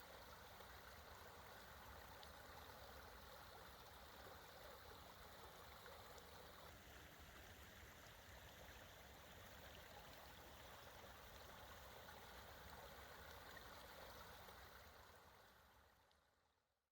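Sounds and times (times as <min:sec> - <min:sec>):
creek water flowing: 0:00.0 - 0:16.5.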